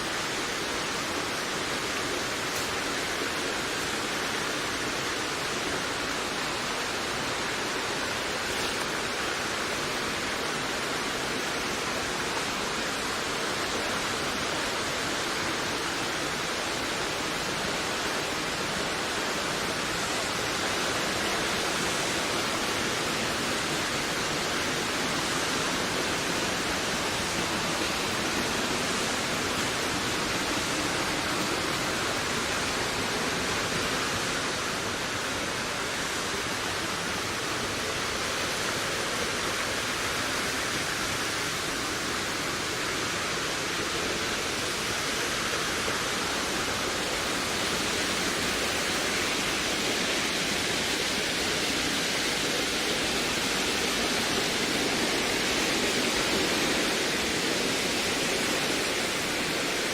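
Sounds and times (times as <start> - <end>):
wind rushing through forest: 0.0 - 59.9.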